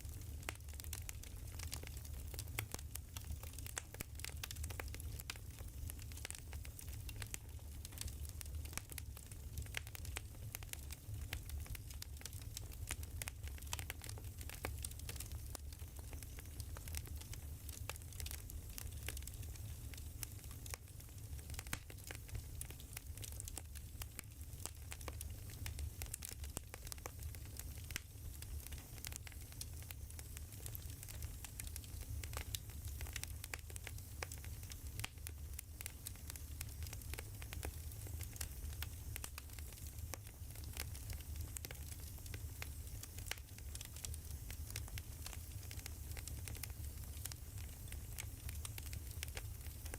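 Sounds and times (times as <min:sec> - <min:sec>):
firewood crackling and popping: 0:00.0 - 0:49.9.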